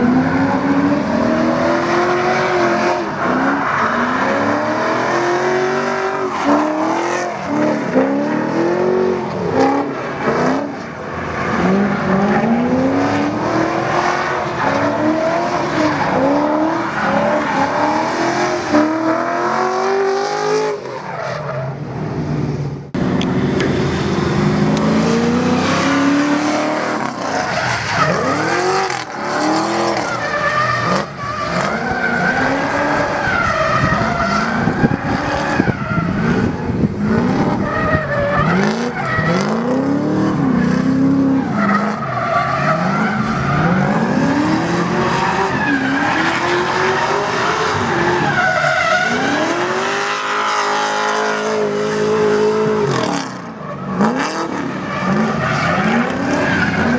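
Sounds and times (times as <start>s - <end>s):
car engine revving: 0.0s - 20.9s, 21.8s - 56.9s.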